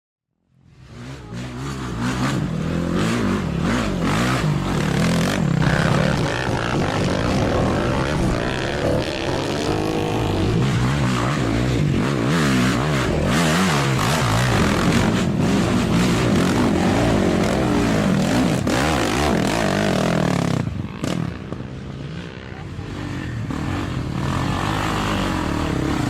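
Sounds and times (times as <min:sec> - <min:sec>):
quad bike engine revving: 0:00.8 - 0:26.0.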